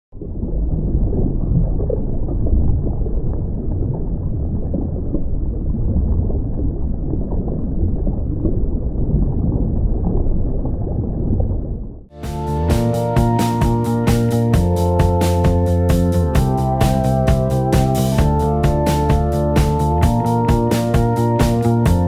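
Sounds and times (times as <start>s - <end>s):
muffled rumble of sea water: 0.1s - 22.0s.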